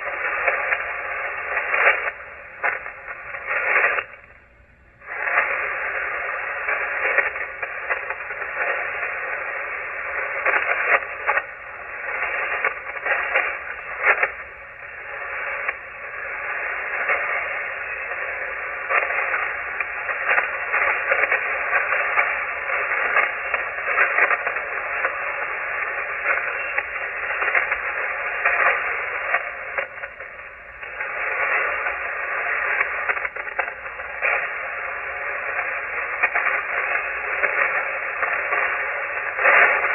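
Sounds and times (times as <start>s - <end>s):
radio band noise: 0.0s - 39.9s
short static crackles: 0.0s - 39.9s.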